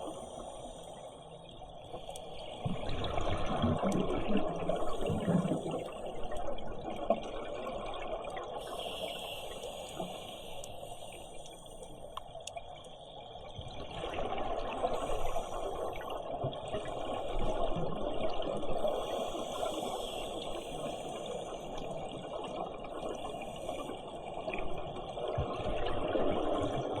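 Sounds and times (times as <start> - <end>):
underwater air bubbling: 0.0 - 27.0.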